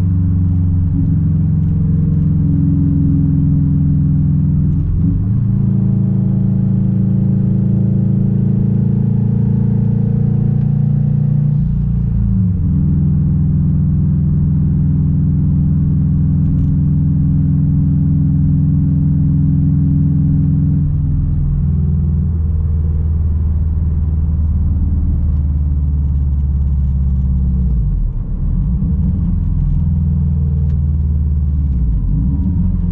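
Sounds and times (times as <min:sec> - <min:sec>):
car exhaust rumbling: 0:00.0 - 0:32.9.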